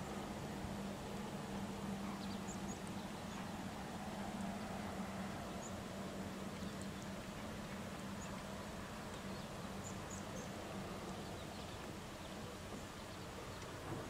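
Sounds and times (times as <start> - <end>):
constant low hum: 0.0 - 14.0
distant birds chirping: 0.0 - 14.0.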